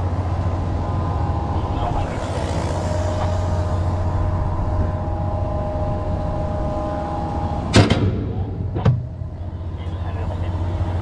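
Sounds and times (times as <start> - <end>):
faint steady whine: 0.0 - 11.0
heavy machinery droning: 0.0 - 11.0.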